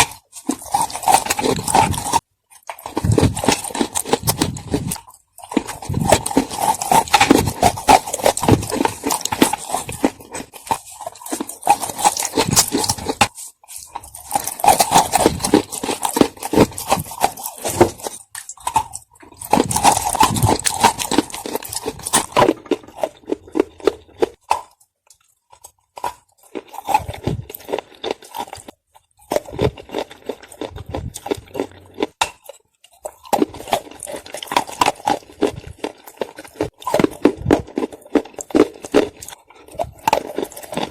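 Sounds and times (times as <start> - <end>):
crunching and chewing clay: 0.0 - 40.9.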